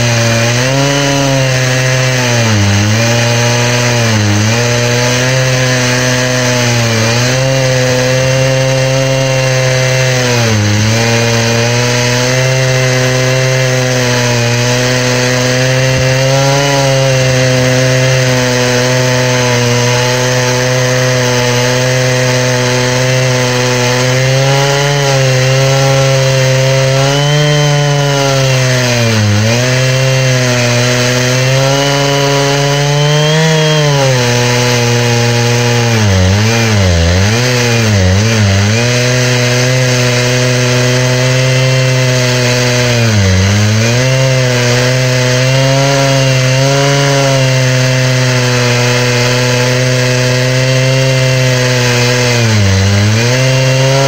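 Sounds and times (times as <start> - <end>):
chainsaw cutting log at full throttle: 0.0 - 54.0.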